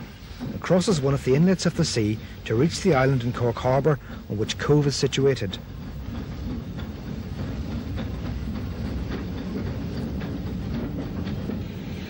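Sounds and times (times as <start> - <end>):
train carriages rumbling on track: 0.0 - 12.0
wheels clicking over rail joints: 0.0 - 12.0.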